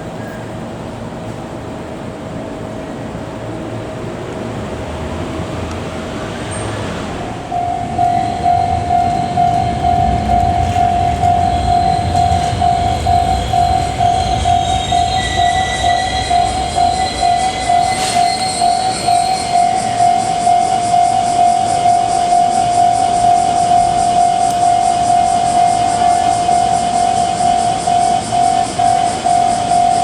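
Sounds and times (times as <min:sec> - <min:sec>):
level-crossing warning bell: 0:00.0 - 0:30.0
low rumble of passing traffic: 0:00.0 - 0:30.0.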